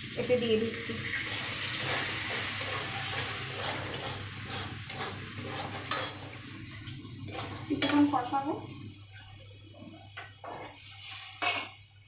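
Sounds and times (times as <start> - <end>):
paste sizzling in hot oil: 0.0 - 9.2, 10.5 - 11.8.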